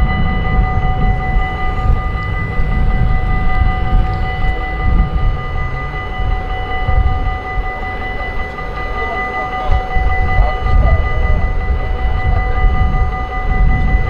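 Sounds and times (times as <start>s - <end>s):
level crossing warning bells: 0.0s - 14.0s
low rumble: 0.0s - 14.0s.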